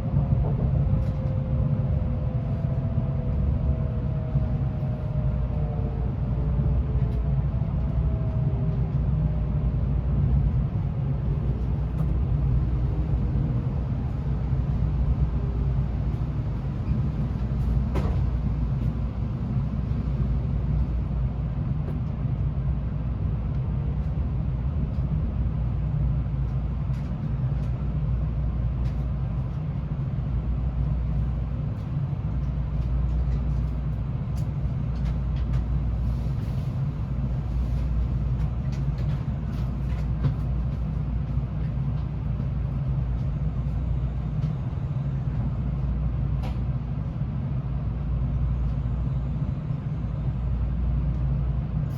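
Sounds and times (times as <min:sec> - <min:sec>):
low hum of train equipment: 0:00.0 - 0:51.9.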